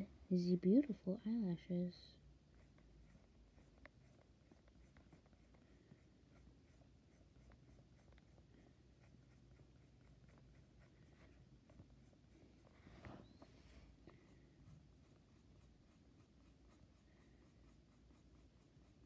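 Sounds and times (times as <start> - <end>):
low steady hum: 0.0 - 19.0
pen scratching on paper: 2.5 - 13.2, 14.2 - 19.0.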